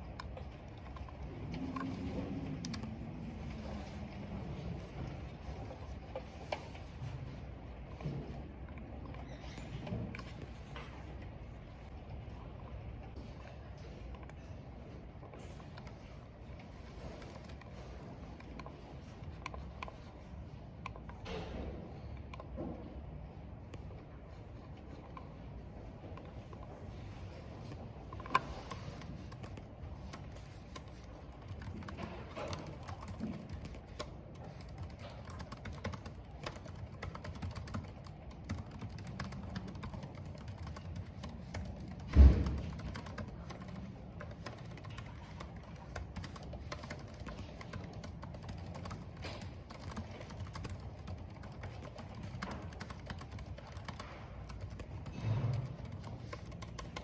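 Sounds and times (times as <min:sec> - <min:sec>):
computer keyboard typing: 0:00.0 - 0:21.2, 0:23.6 - 0:57.0.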